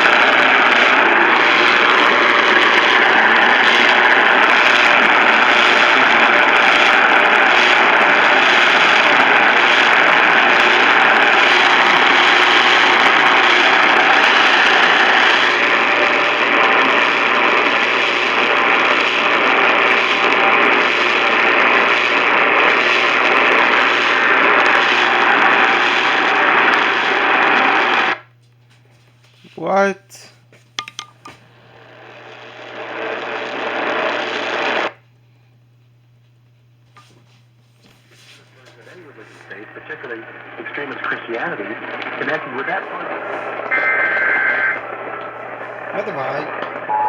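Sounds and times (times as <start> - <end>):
radio static hiss: 0.0 - 28.3, 29.3 - 35.0, 36.9 - 47.0.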